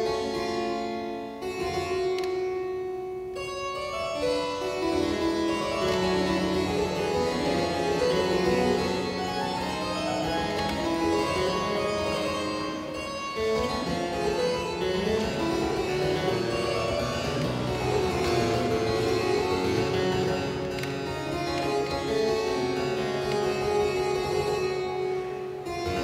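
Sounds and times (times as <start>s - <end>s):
baroque chamber music: 0.0s - 26.0s
harpsichord quick notes: 3.1s - 26.0s.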